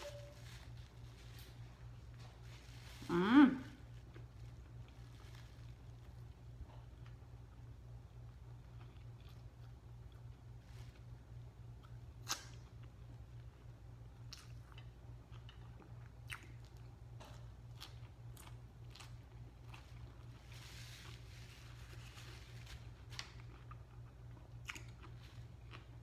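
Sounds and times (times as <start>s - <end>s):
low steady hum: 0.0s - 26.0s
person chewing food: 3.8s - 26.0s.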